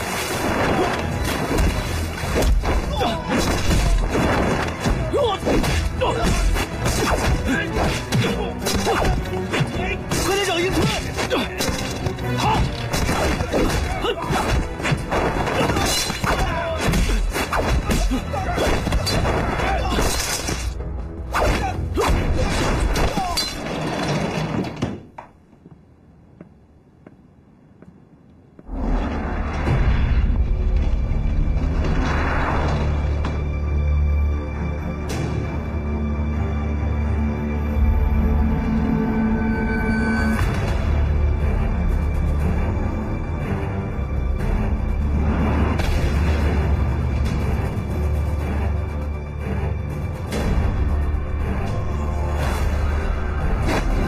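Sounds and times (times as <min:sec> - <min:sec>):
action music: 0:00.0 - 0:23.4, 0:29.6 - 0:54.0.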